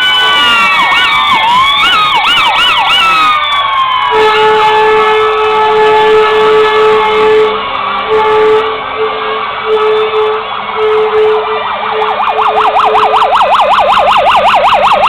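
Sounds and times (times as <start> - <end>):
fast siren yelp: 0.0 - 8.6, 9.5 - 15.0
siren wail falling in pitch: 0.0 - 8.8, 9.6 - 15.0
steady low siren tone: 0.0 - 15.0.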